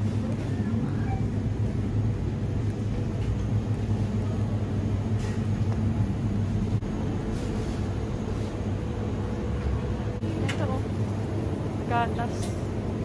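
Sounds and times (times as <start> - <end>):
freezers humming: 0.0 - 13.0.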